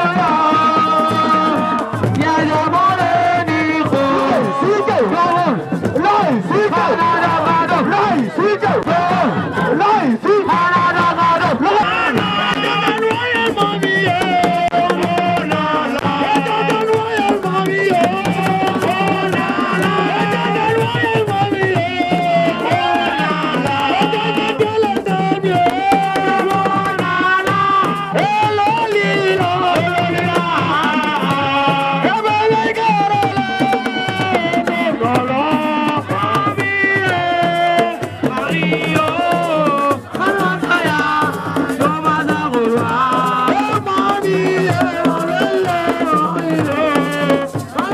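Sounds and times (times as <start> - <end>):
hand drums beat: 0.0 - 47.9.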